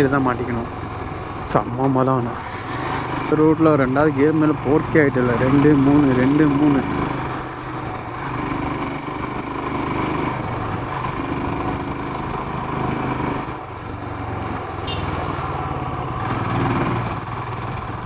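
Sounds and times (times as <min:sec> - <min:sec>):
motorcycle engine pulling uphill: 0:00.0 - 0:18.0.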